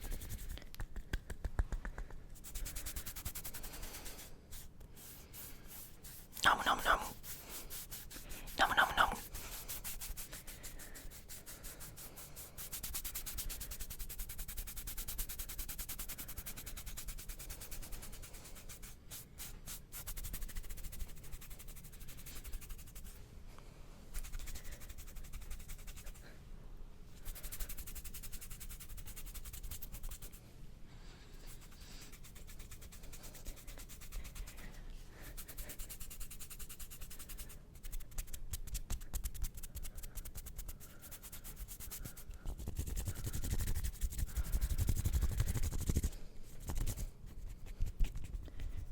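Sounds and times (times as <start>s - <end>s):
hands rubbing and scratching skin: 0.0s - 23.2s, 24.1s - 26.3s, 27.2s - 30.4s, 31.3s - 48.9s.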